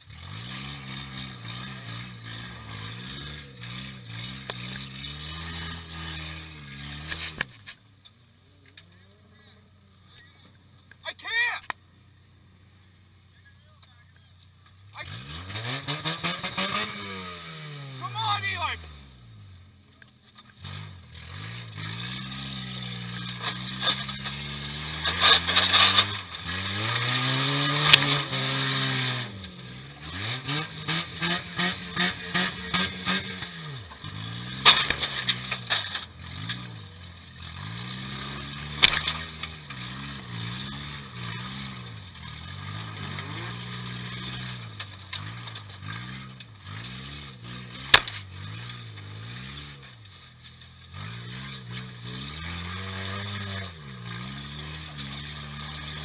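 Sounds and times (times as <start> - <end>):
car engine revving: 0.0 - 7.8, 14.6 - 56.0.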